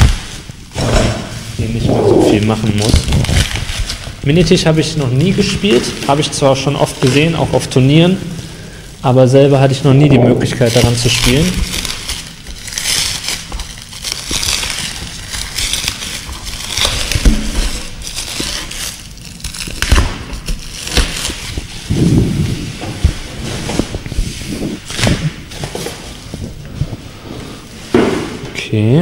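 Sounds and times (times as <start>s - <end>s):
plastic wrapping crinkling: 0.0s - 28.0s.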